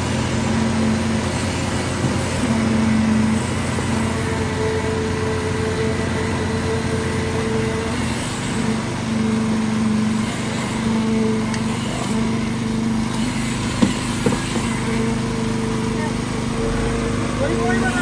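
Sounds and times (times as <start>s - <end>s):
concrete vibrator engine running: 0.0s - 18.0s.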